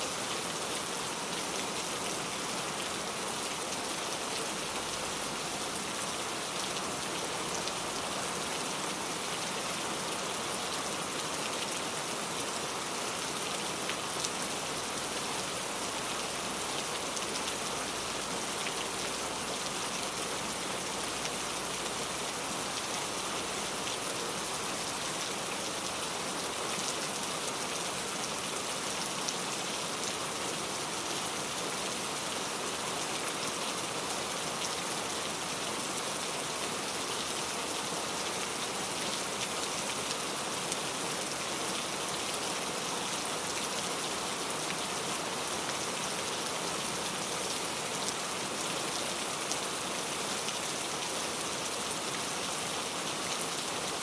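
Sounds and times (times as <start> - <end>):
rain falling on a surface: 0.0 - 54.0.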